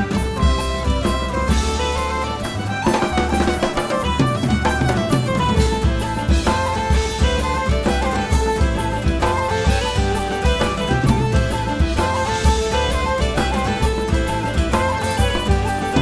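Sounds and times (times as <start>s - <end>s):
instrumental music with drums and strings: 0.0s - 16.0s.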